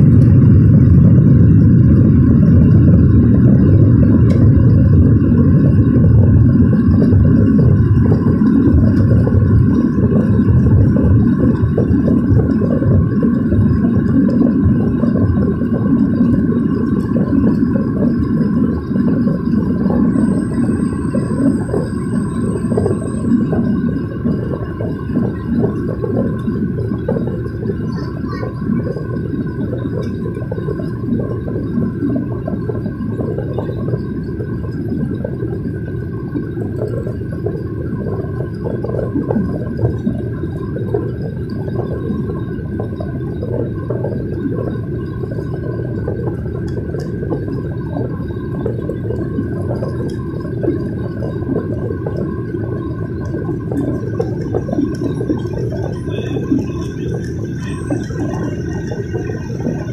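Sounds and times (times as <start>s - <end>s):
airliner engine drone: 0.0s - 59.9s
faint steady whine: 0.0s - 59.9s.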